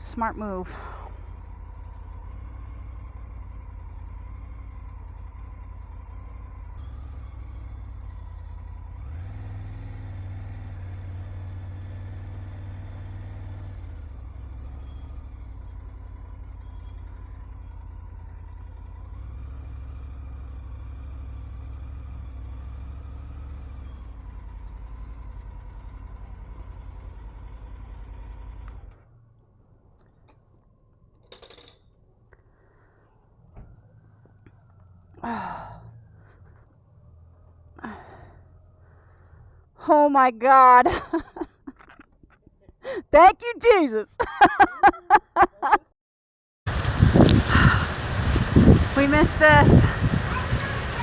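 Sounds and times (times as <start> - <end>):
motorcycle engine: 0.0 - 43.6, 46.7 - 51.0
road noise: 0.0 - 45.9, 46.7 - 51.0.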